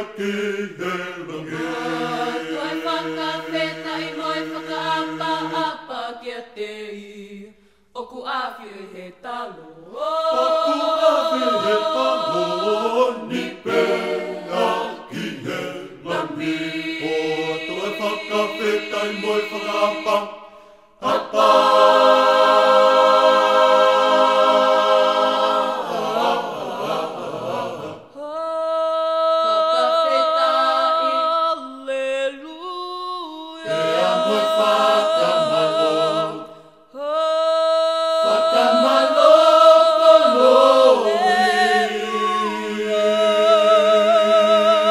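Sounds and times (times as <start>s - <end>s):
a cappella choir singing: 0.0s - 44.9s.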